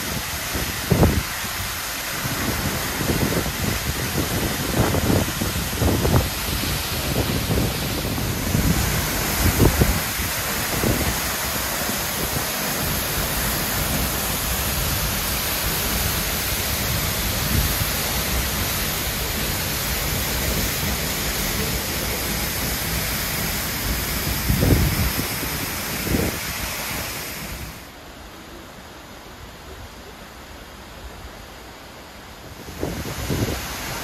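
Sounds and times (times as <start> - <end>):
waterfall rushing: 0.0 - 28.6, 32.2 - 34.0.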